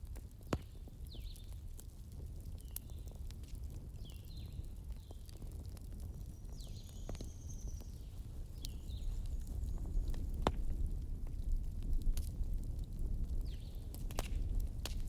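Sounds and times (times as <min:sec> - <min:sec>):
fireplace crackling and popping: 0:00.0 - 0:15.0.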